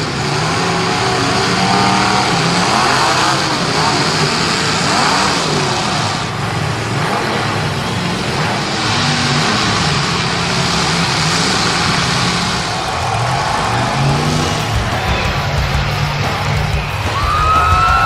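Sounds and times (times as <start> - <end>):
race car engines revving: 0.0 - 18.0
steady rushing noise: 0.0 - 18.0.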